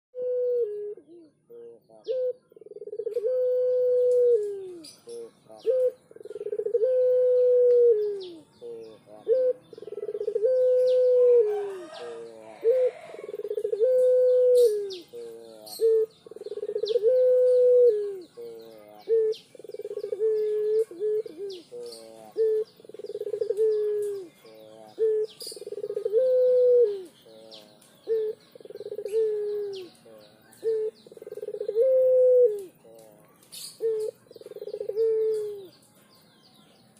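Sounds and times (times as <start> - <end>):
dove cooing: 0.2 - 35.8
faint small birds chirping: 0.2 - 36.9.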